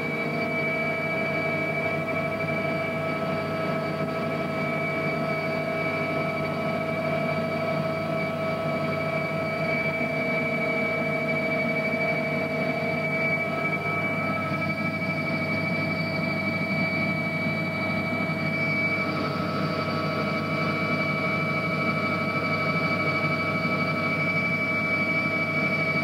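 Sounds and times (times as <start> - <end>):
mechanical drone with whining tones: 0.0 - 26.0.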